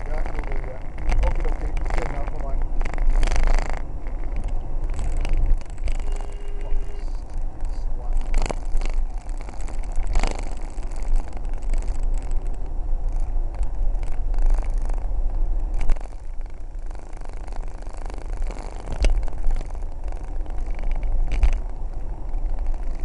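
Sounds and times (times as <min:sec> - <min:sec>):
car road noise rumble: 0:00.0 - 0:23.0.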